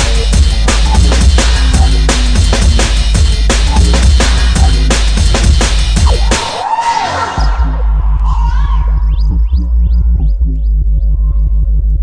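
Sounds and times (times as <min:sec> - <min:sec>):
fast breakbeat drums: 0:00.0 - 0:06.6, 0:07.6 - 0:12.0
heavy sub-bass line: 0:00.0 - 0:06.6, 0:07.3 - 0:12.0.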